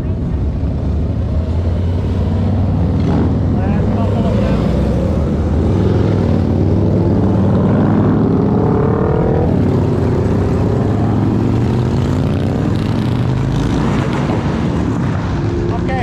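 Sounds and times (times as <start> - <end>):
motorcycle engines accelerating: 0.0 - 16.0.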